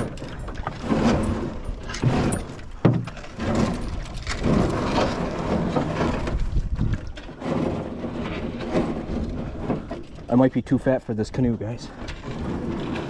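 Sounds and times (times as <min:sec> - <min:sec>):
canoe hull scraping: 0:00.0 - 0:13.0.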